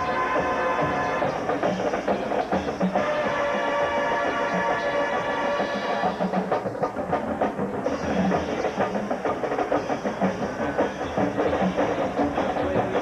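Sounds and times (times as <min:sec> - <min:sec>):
rapid drum line drumming: 0:00.0 - 0:13.0.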